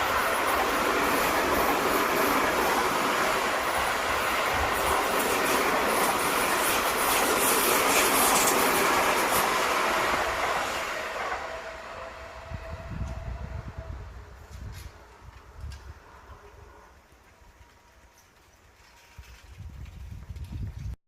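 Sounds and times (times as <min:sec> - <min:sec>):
train wheels rumbling and clattering: 0:00.0 - 0:11.8, 0:12.7 - 0:21.0.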